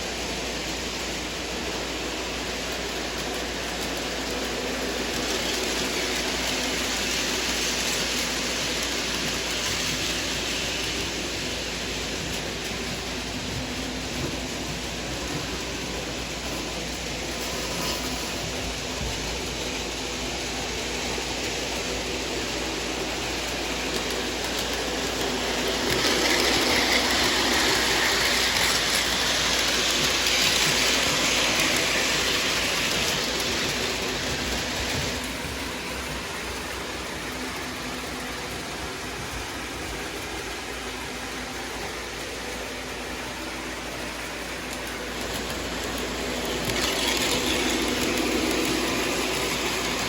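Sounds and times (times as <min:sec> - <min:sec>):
freight train on rails: 0:00.0 - 0:50.0.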